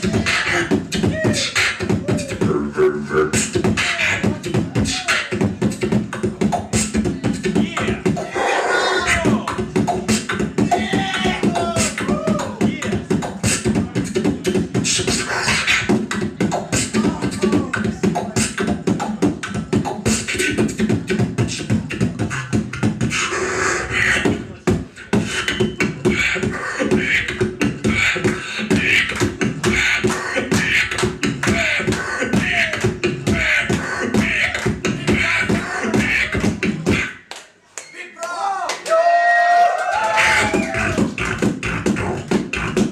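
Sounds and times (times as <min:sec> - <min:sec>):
beatboxing: 0:00.0 - 0:37.5, 0:39.9 - 0:42.9.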